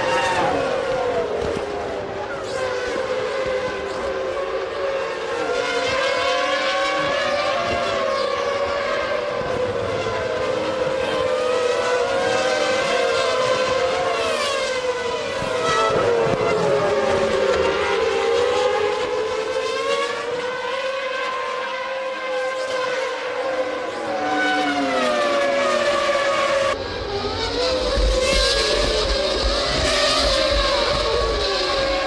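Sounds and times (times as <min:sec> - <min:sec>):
racing car engines whining: 0:00.0 - 0:32.0.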